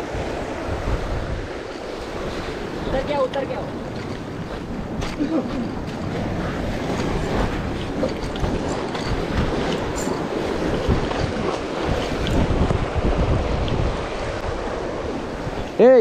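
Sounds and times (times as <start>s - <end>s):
wind buffeting microphone: 0.0s - 15.8s
surf washing over rocks: 0.0s - 16.0s.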